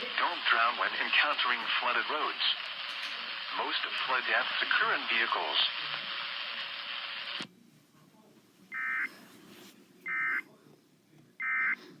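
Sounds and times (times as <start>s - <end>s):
steady broadcast hiss: 0.0s - 12.0s.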